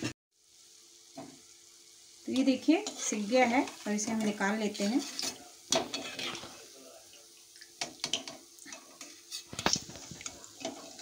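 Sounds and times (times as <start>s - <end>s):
oil faintly sizzling: 0.0s - 11.0s.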